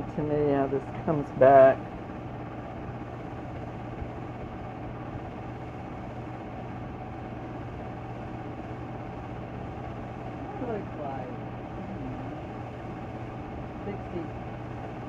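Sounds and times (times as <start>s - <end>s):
constant low hum: 0.0s - 15.0s
film projector whirring: 0.0s - 15.0s.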